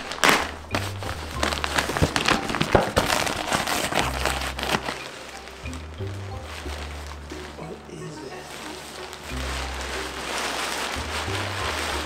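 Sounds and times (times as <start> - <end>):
plastic and cardboard crinkling: 0.0 - 12.0.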